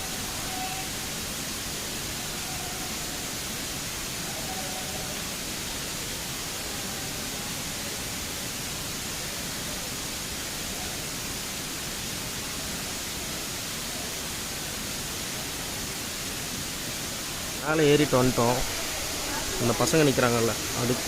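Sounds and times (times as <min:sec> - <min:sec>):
waterfall pouring onto rocks: 0:00.0 - 0:21.0.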